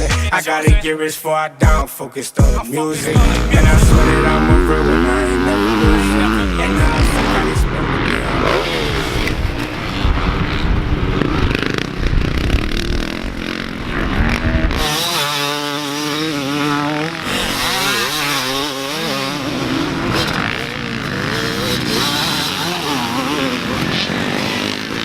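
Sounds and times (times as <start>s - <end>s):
dirt bike engine revving: 2.4s - 25.0s.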